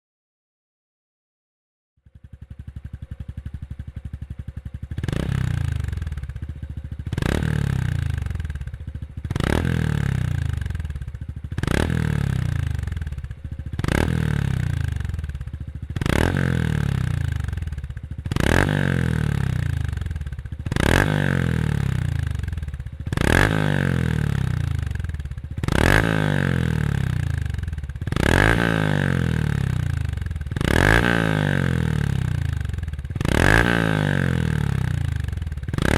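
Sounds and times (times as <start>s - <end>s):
motorcycle engine revving: 2.0s - 35.9s.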